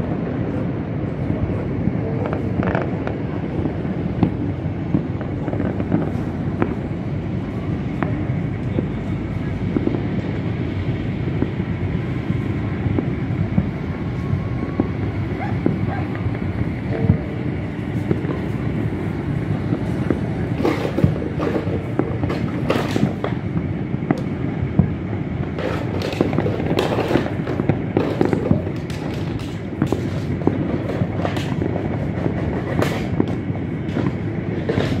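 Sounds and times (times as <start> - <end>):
distant fireworks bangs and pops: 0.0 - 35.0
steady low rumble: 0.0 - 35.0.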